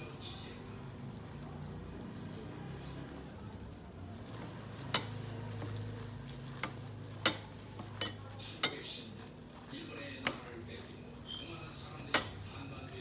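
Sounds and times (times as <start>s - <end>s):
rustle of glove and flour: 0.0s - 13.0s.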